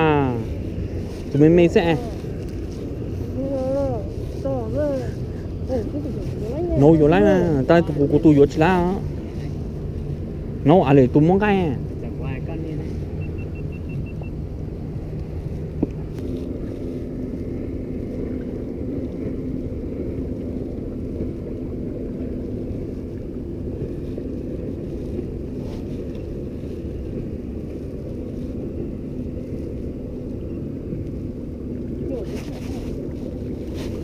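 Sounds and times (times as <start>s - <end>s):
boat motor running: 0.0s - 34.0s
low rumbling water: 0.0s - 34.0s.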